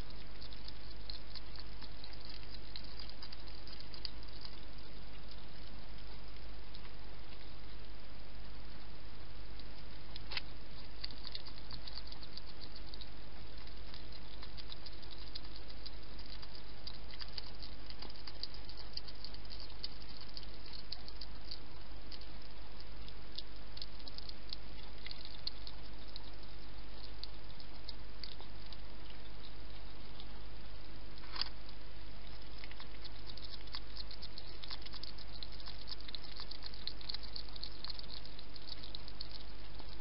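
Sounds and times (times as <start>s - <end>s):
hedgehog chewing and crunching: 0.0s - 40.0s
steady low hum: 0.0s - 40.0s.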